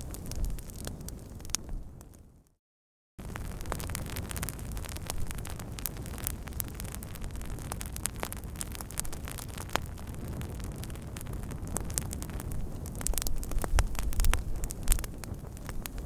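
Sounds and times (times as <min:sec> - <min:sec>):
wood fire crackling and popping: 0:00.0 - 0:02.4, 0:03.2 - 0:16.0.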